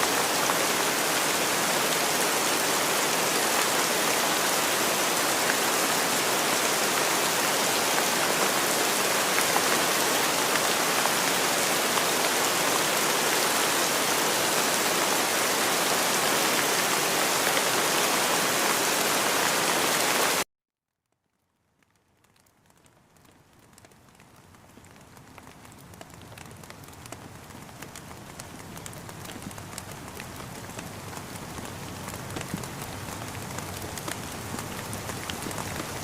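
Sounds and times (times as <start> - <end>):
dense rain patter: 0.0 - 20.4, 21.2 - 36.0.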